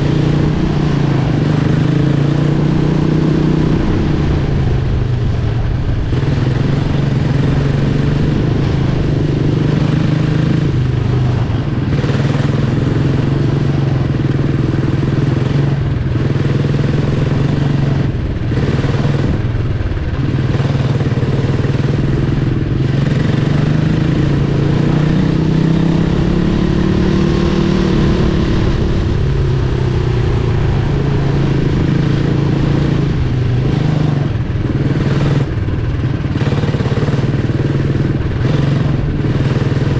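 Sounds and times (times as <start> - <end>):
racing engine running hard: 0.0 - 39.9.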